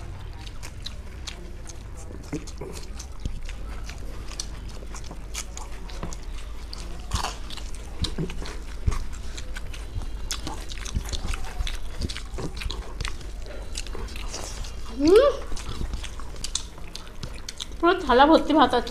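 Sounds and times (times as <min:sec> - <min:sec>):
people chewing and lip-smacking: 0:00.0 - 0:18.9.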